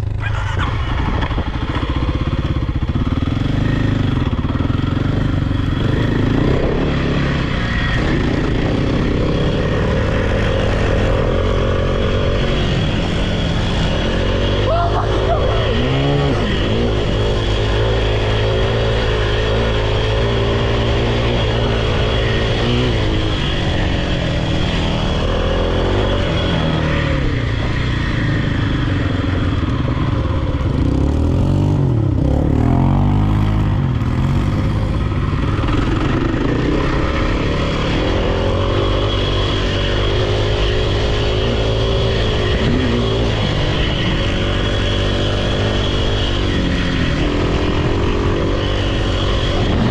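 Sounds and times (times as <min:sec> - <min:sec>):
off-road vehicle engine revving: 0:00.0 - 0:49.9.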